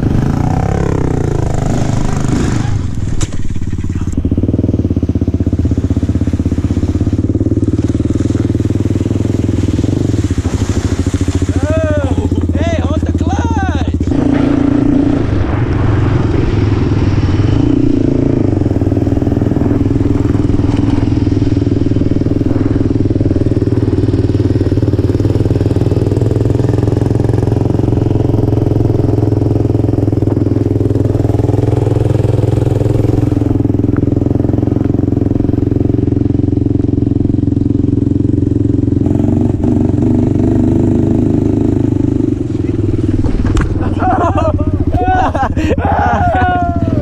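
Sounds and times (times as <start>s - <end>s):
atv engine running: 0.0s - 47.0s.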